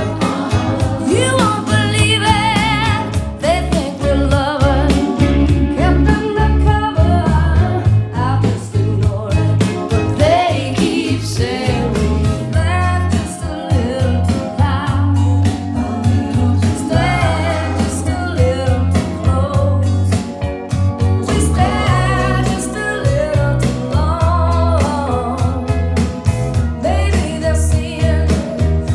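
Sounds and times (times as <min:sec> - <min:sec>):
deep sustained bass notes: 0:00.0 - 0:13.2, 0:13.8 - 0:20.2, 0:20.8 - 0:28.9
person singing: 0:00.0 - 0:15.1, 0:15.7 - 0:20.1, 0:21.3 - 0:25.8, 0:26.8 - 0:28.6.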